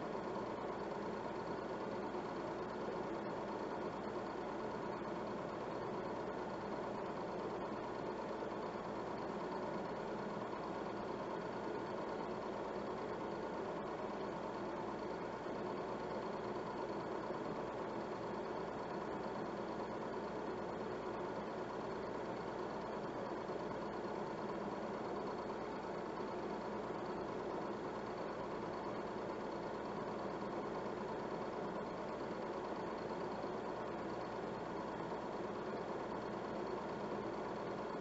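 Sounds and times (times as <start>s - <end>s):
film projector whirring: 0.0s - 38.0s.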